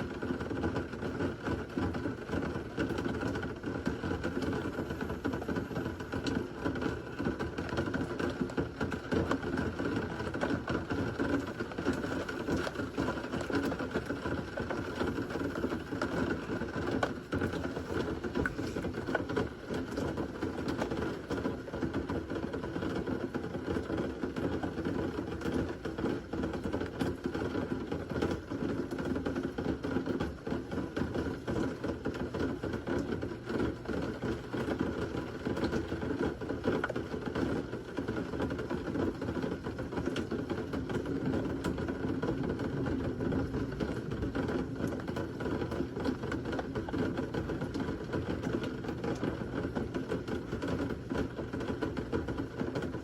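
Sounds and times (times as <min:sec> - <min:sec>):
heavy rain patter: 0:00.0 - 0:53.0.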